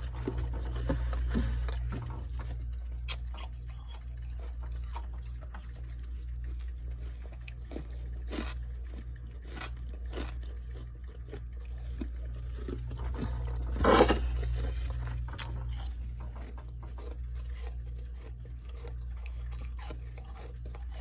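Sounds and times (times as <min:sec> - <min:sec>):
chewing crunchy frost: 0:00.0 - 0:21.0
steady low hum: 0:00.0 - 0:21.0.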